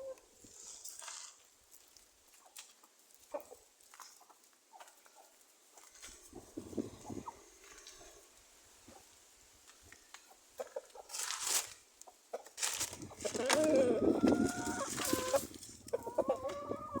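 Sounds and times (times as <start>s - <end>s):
rustling: 0.4s - 16.1s.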